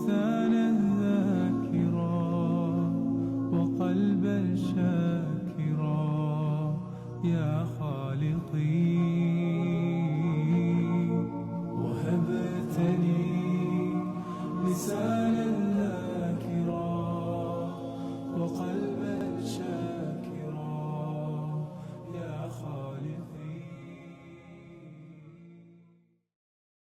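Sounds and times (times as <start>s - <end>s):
a cappella vocal chant: 0.0s - 26.0s.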